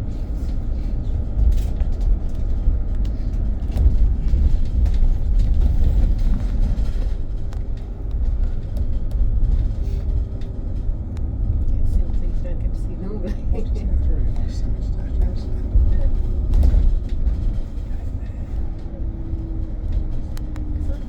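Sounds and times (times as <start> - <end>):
bus road and tyre rumble: 0.0 - 21.0.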